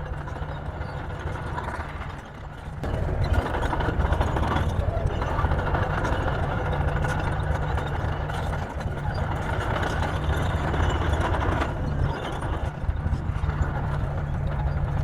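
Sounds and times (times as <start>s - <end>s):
heavy machine engine rumbling: 0.0s - 15.0s.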